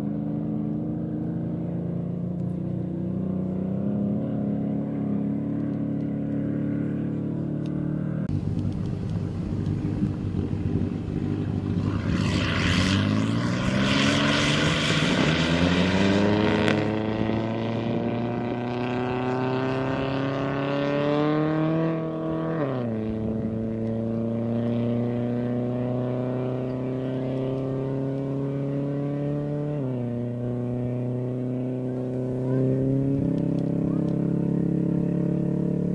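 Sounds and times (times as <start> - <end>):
race car engine accelerating: 0.0 - 35.9.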